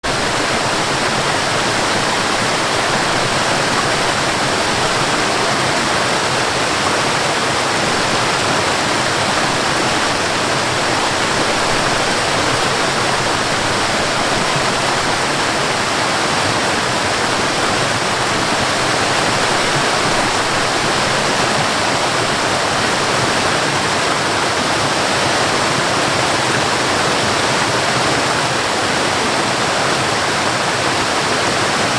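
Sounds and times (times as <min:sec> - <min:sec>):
rushing water: 0:00.0 - 0:31.9.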